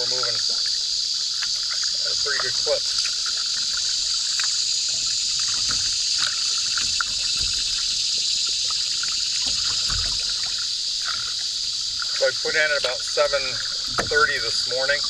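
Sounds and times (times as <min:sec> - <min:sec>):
insect buzz: 0:00.0 - 0:15.0
paddle drips and splashes: 0:00.0 - 0:15.0
water lapping around canoe: 0:00.0 - 0:15.0.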